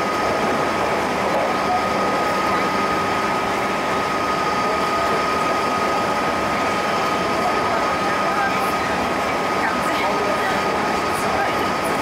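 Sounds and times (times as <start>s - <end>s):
wheels roaring on rail: 0.0s - 12.0s.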